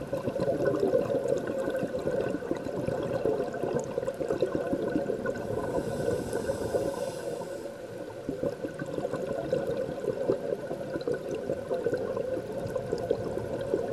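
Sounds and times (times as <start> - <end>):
underwater bubbling and crackling: 0.0 - 13.9.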